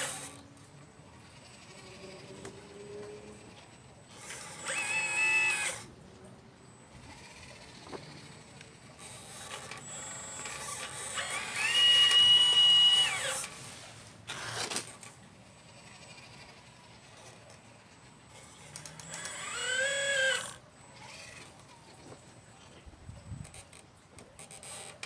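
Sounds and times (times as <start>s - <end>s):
toy excavator motor whine: 0.0s - 6.0s, 6.6s - 25.0s.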